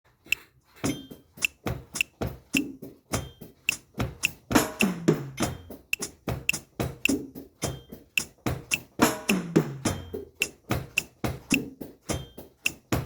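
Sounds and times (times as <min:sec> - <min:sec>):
sharp clicking percussion strikes: 0:00.3 - 0:13.0.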